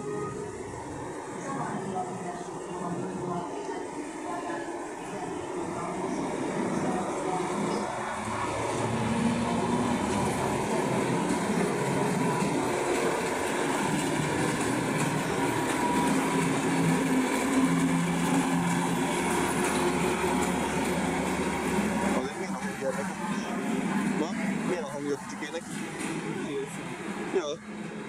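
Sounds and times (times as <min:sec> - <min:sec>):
diesel locomotive engine drone: 0:00.0 - 0:28.0
rail noise: 0:00.0 - 0:28.0.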